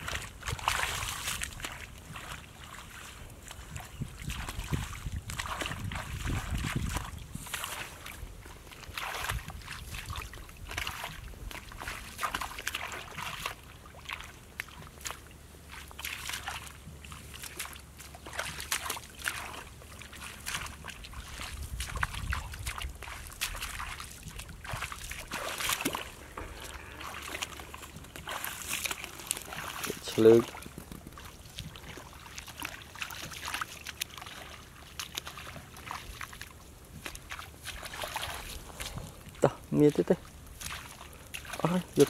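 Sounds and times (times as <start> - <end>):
hands splashing in muddy water: 0.0 - 42.0.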